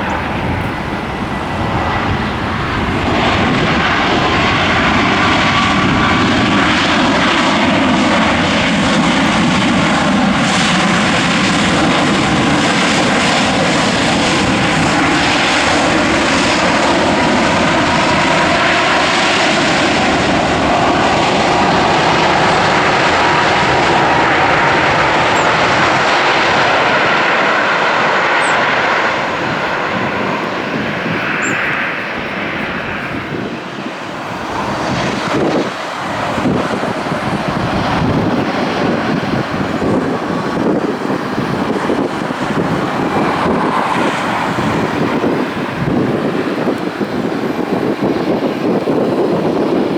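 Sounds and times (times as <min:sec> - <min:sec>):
jet engines running loudly: 0:00.0 - 0:49.9.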